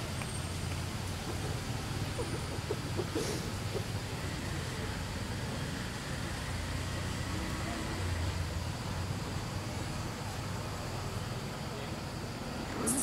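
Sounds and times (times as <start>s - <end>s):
even hiss: 0.0s - 13.0s
low outdoor rumble: 0.0s - 13.0s.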